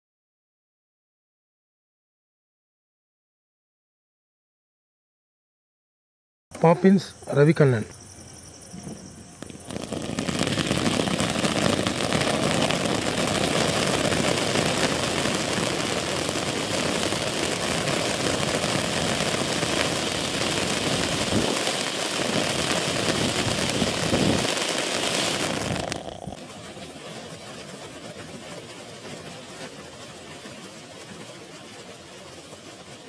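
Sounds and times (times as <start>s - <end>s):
firework fountain hissing and crackling: 6.5s - 33.0s.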